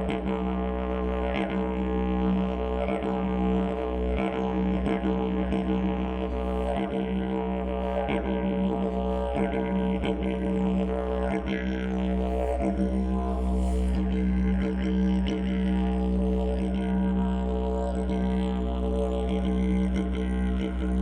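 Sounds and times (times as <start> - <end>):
didgeridoo low drone: 0.0 - 21.0.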